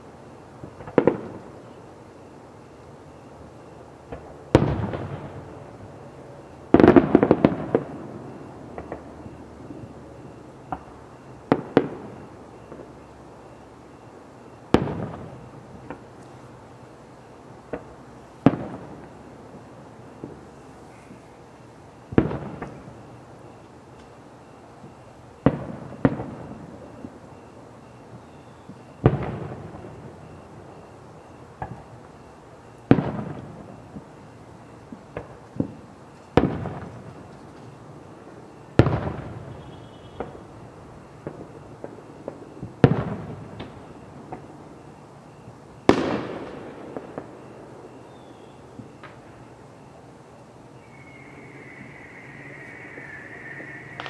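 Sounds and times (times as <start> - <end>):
fireworks booming with echo: 0.3 - 54.0.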